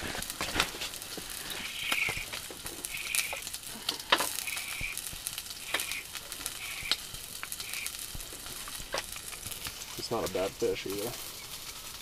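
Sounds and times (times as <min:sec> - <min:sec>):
sausage sizzling in a pan: 0:00.0 - 0:12.0
sharp crackling pops: 0:00.0 - 0:12.0.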